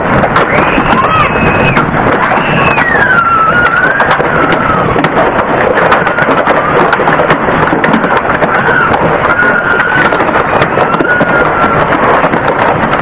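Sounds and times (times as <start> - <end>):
heavy hail pelting down: 0.0 - 13.0.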